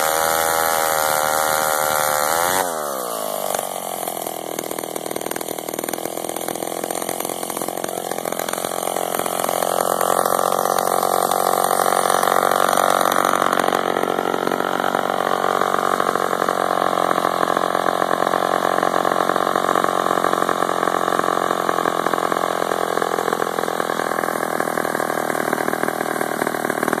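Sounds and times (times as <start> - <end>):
chainsaw engine idling: 0.0 - 27.0.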